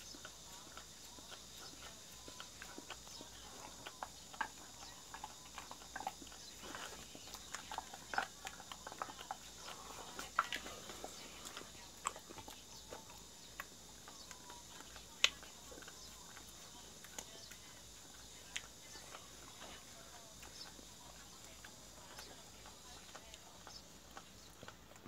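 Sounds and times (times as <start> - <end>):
dog licking: 0.0 - 25.0.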